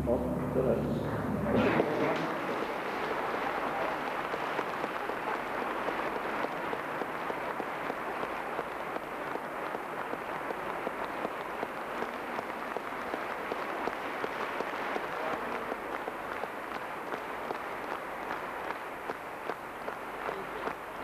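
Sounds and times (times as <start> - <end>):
audience applauding: 1.6 - 21.0.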